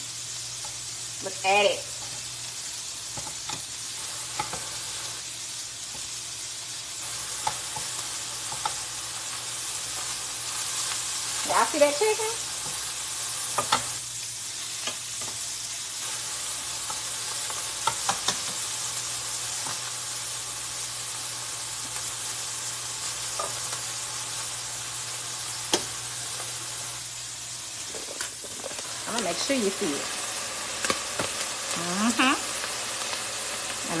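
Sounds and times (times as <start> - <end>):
chicken sizzling in a skillet: 0.0 - 34.0.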